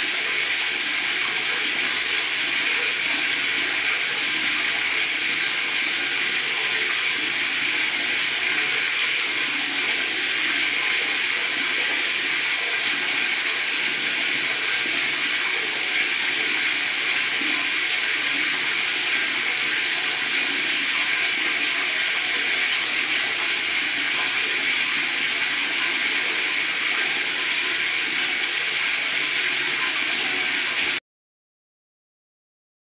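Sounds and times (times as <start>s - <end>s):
tap water pouring into bathtub: 0.0s - 31.0s.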